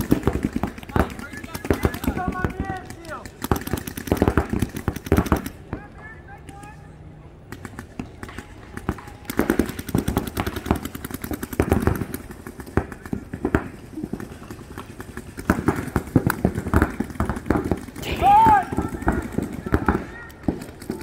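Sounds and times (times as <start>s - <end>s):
paintball markers firing rapidly: 0.0s - 5.8s, 7.4s - 21.0s.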